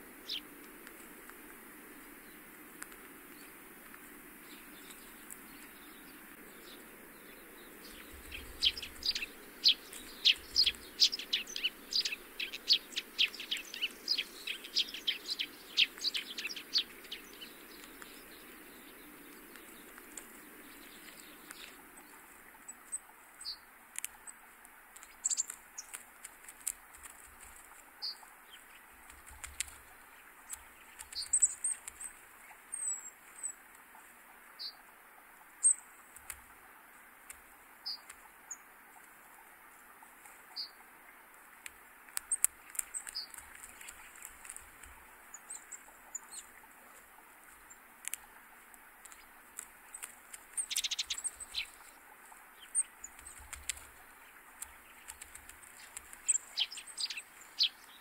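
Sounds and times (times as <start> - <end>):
small birds calling: 0.0 - 58.0.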